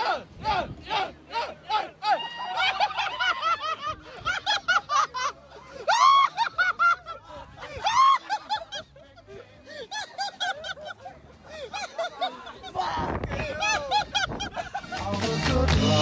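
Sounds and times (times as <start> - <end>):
young men yelling and laughing: 0.0 - 16.0.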